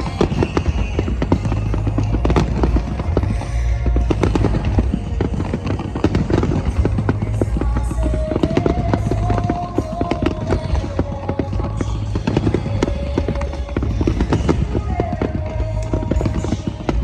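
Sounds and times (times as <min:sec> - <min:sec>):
fireworks bursting: 0:00.0 - 0:17.0
music through loudspeakers: 0:00.0 - 0:17.0.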